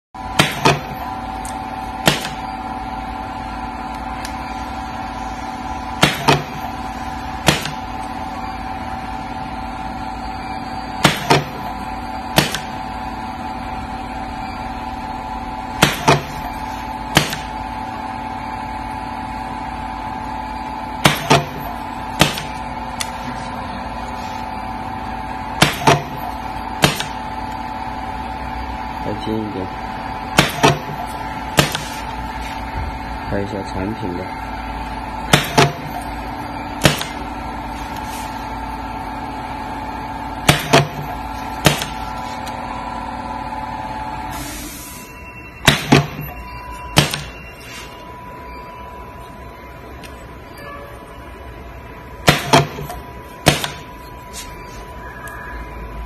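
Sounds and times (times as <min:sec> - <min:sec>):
crimping machine humming: 0:00.2 - 0:56.0.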